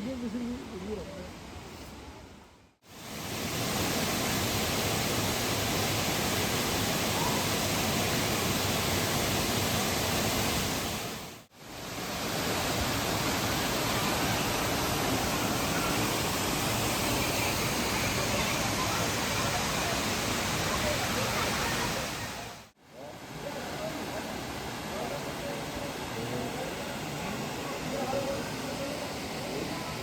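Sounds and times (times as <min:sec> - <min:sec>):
flowing water rushing: 0:02.8 - 0:30.0.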